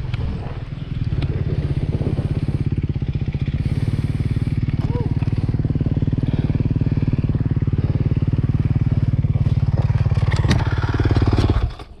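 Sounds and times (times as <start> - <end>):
atv engine idling: 0.0 - 12.0.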